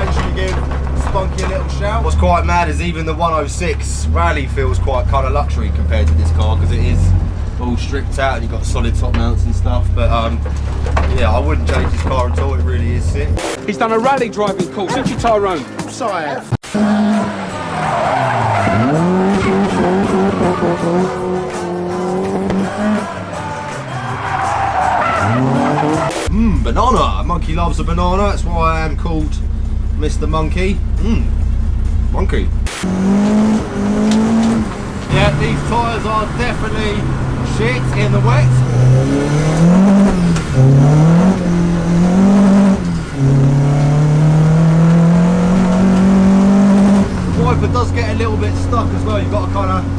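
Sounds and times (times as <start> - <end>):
car engine revving: 0.0 - 13.6, 16.6 - 49.9
tyres squealing: 0.0 - 13.6, 16.7 - 49.9.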